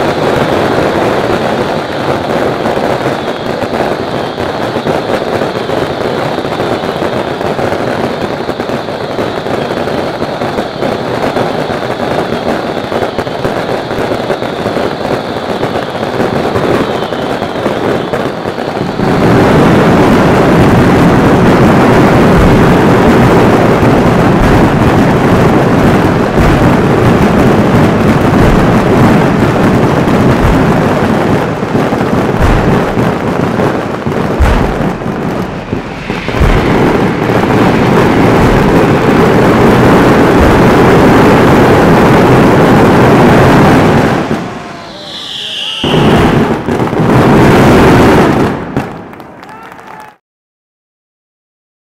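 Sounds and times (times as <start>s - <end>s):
deep fireworks booms: 0.0s - 49.3s
fireworks crackling bangs: 0.0s - 49.7s.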